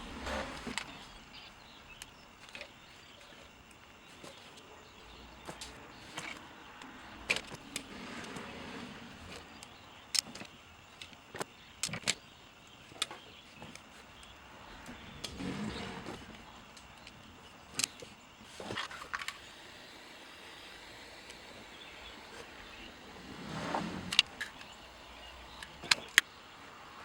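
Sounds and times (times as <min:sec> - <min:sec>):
low steady background noise: 0:00.0 - 0:27.0.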